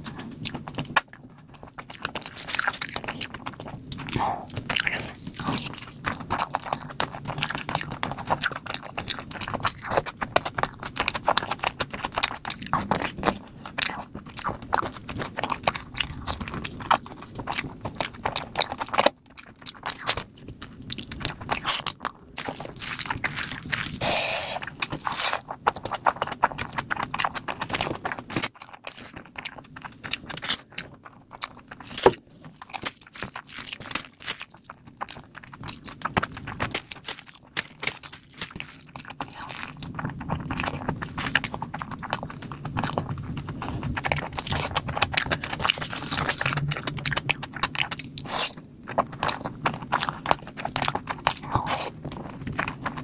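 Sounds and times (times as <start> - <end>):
chewing and smacking: 0.0 - 53.0.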